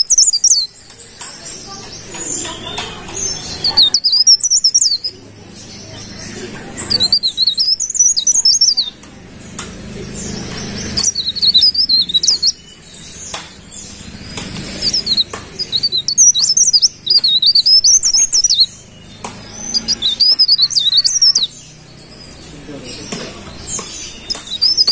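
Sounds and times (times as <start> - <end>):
warbler twittering: 0.0 - 24.9.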